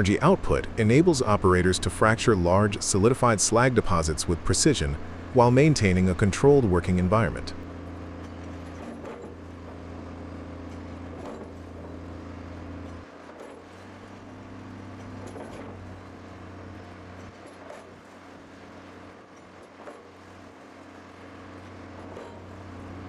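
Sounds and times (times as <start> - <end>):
heavy machine engine droning: 0.0 - 23.0.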